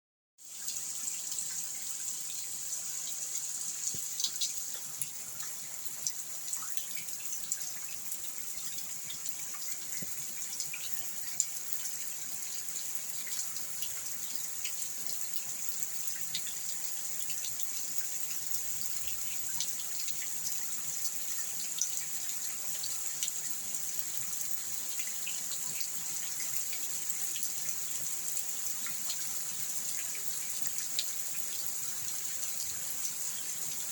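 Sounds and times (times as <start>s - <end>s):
rain falling: 0.5s - 33.9s.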